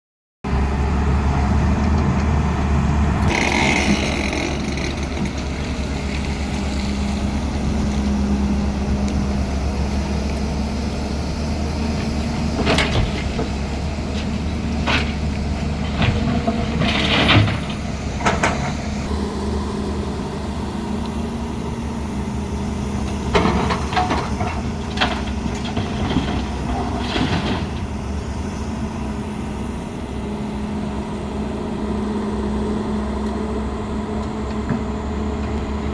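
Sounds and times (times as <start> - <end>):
diesel machinery droning: 0.4 - 35.9.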